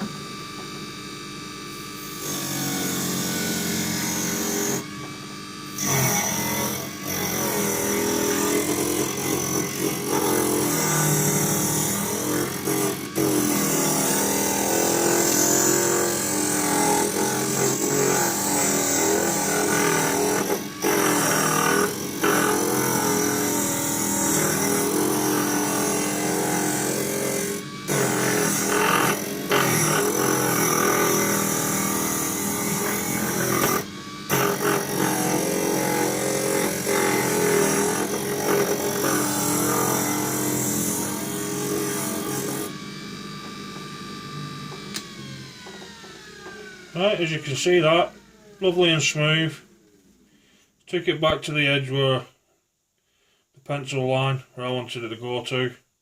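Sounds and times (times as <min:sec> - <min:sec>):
disc sander running: 0:00.0 - 0:48.9.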